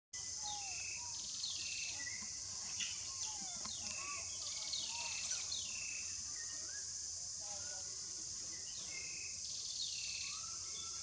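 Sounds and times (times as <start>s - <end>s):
high-pitched insect drone: 0.2s - 11.0s.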